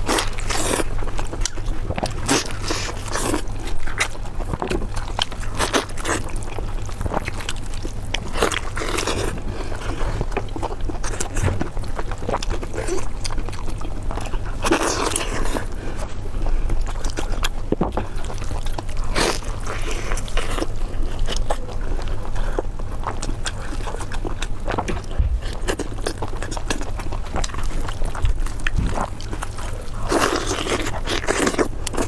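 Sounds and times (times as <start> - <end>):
chewing and biting food: 0.0 - 32.0
steady low hum: 0.0 - 32.0.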